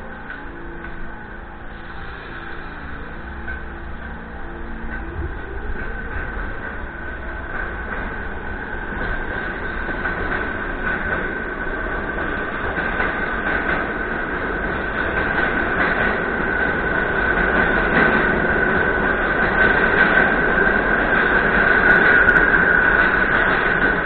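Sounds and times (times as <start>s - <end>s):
high squeal of train: 0.0s - 24.0s
train rumbling on rails: 0.0s - 24.0s.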